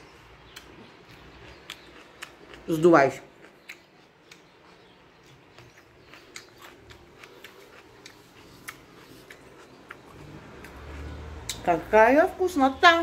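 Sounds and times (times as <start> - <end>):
person chewing raw pepper: 0.0 - 11.7.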